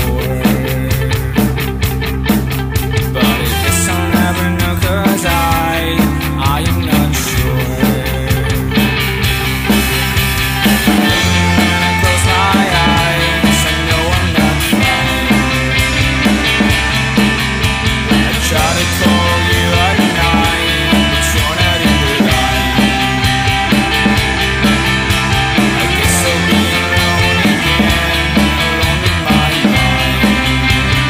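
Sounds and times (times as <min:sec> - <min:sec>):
indie rock band playing: 0:00.0 - 0:31.0.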